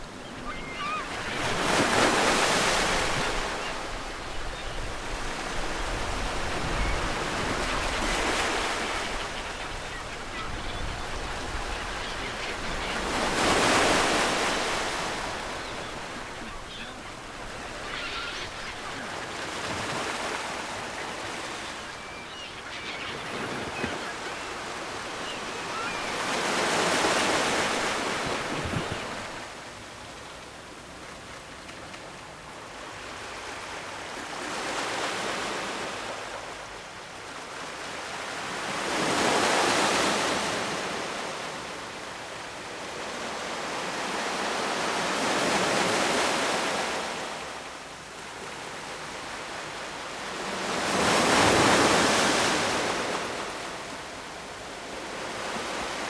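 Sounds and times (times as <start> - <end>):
ocean waves breaking on shore: 0.0 - 31.7, 32.5 - 56.0.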